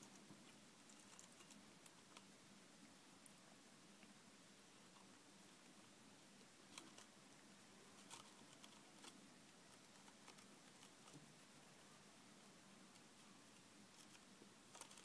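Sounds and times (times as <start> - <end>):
hamster nibbling lettuce: 0.0 - 15.0
quiet steady hiss: 0.0 - 15.0.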